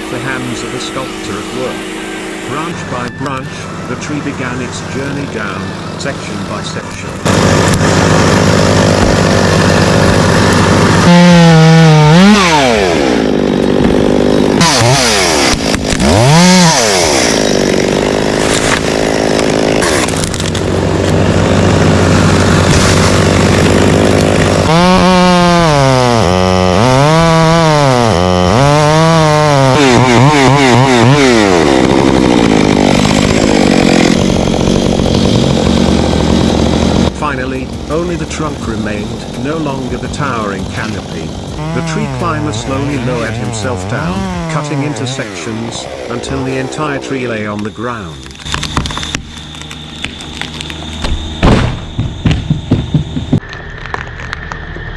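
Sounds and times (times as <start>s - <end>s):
chainsaw revving and cutting: 0.0s - 51.0s.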